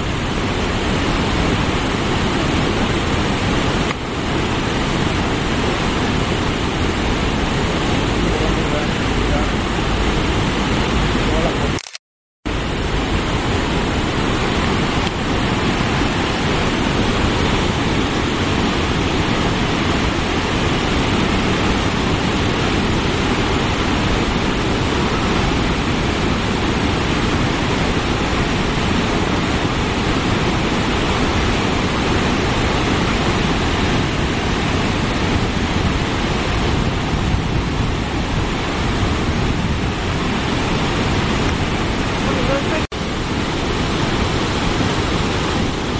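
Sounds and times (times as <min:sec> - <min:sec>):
loud rush of falling water: 0:00.0 - 0:11.8, 0:12.5 - 0:45.9.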